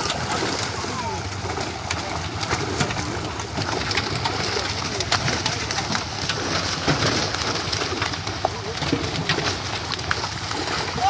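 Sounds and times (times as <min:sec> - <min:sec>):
fish splashing in shallow water: 0:00.0 - 0:11.0.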